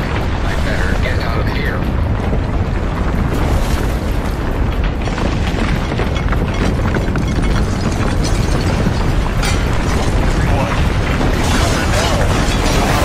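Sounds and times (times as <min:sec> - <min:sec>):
deep earthquake rumble: 0:00.0 - 0:13.0
rattling and clattering: 0:02.1 - 0:13.0.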